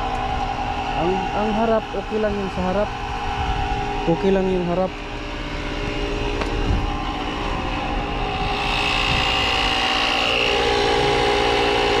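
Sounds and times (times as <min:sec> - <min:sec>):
tyre inflator motor whining: 0:00.0 - 0:12.0.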